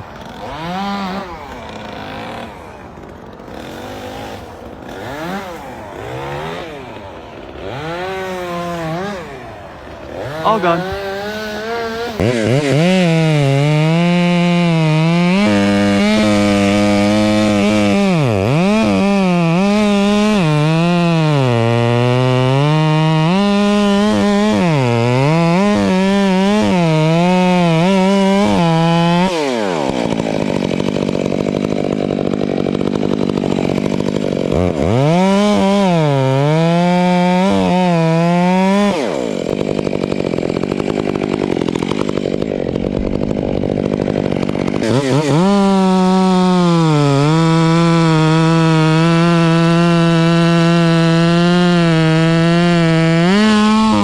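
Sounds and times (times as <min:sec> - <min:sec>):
chainsaw cutting: 0:00.0 - 0:54.0.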